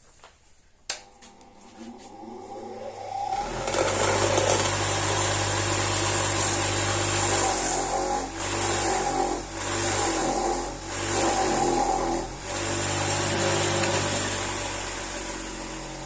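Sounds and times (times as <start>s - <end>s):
bench grinder motor hum: 1.2s - 16.0s.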